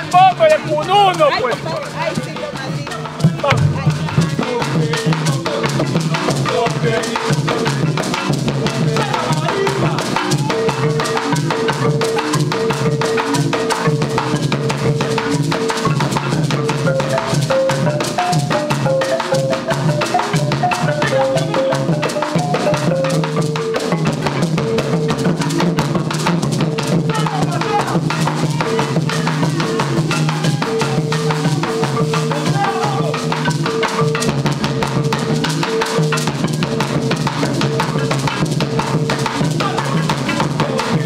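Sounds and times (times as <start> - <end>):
hand drums: 0.0 - 41.0
marimba melody: 0.0 - 41.0
shakers: 0.0 - 41.0.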